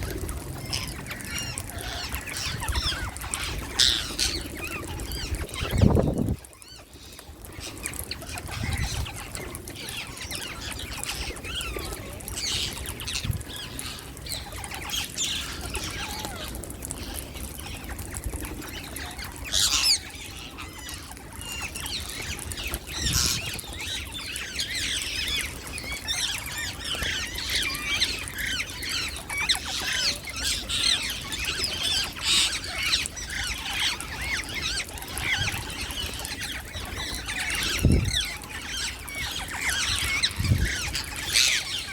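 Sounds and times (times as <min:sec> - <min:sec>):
parakeets squawking and chirping: 0:00.0 - 0:41.9.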